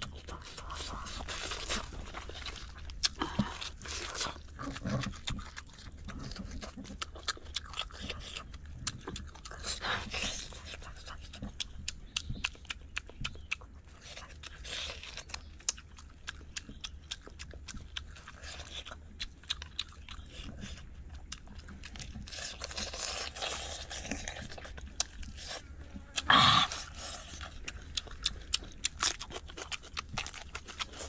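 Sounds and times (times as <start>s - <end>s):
wet chewing and lip smacks: 0.0s - 31.0s.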